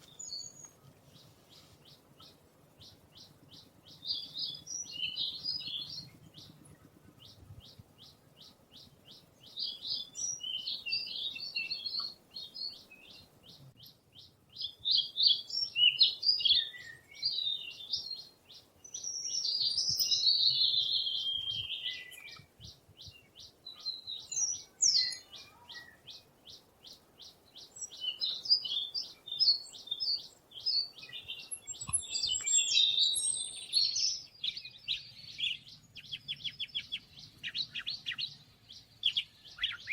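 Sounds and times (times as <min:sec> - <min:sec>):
songbirds chirping: 0:00.0 - 0:39.9
warbled bird song: 0:00.0 - 0:39.9.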